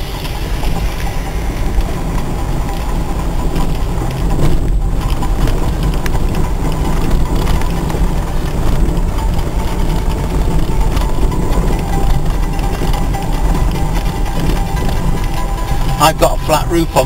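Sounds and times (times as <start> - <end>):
tyres rolling over gravel: 0.0 - 17.0
van engine running: 0.0 - 17.0.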